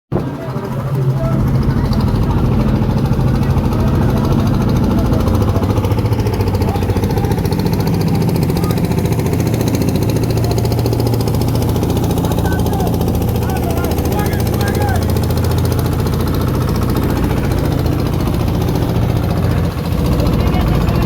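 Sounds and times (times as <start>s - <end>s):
boat engine knocking: 0.1s - 21.0s.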